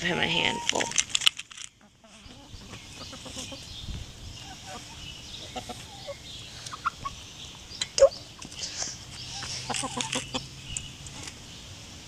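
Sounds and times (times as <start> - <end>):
chickens clucking: 0.0 - 1.1, 1.8 - 11.3.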